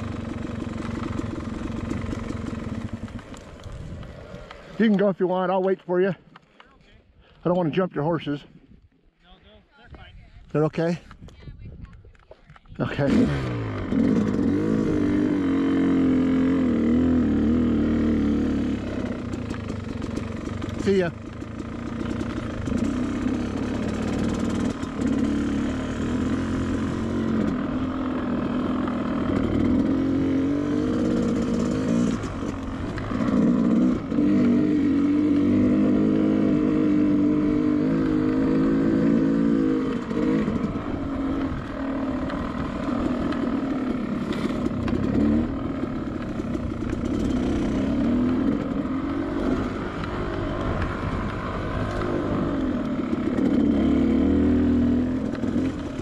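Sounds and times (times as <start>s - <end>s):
dirt bike engine revving: 0.0s - 5.6s, 12.8s - 56.0s.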